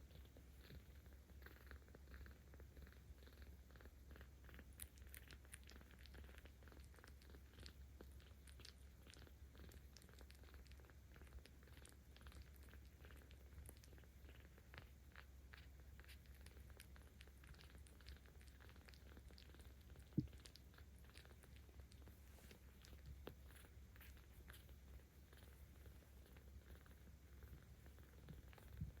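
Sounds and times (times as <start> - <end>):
kitten purring: 0.0 - 29.0.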